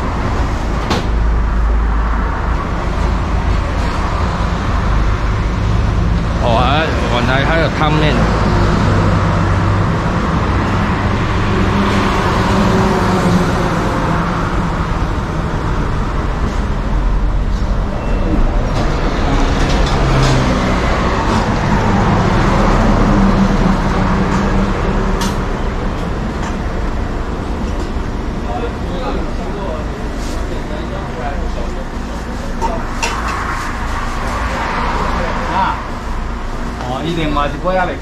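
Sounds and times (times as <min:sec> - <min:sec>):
large vehicle engine running: 0:00.0 - 0:38.0
road traffic noise: 0:00.0 - 0:38.0.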